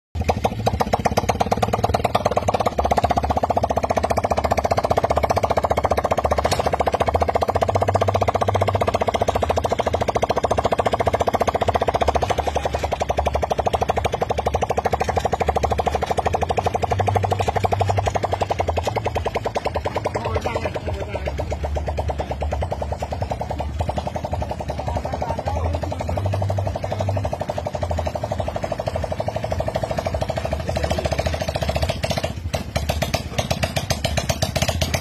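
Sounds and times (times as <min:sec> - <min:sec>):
piston engine running: 0:00.2 - 0:35.0.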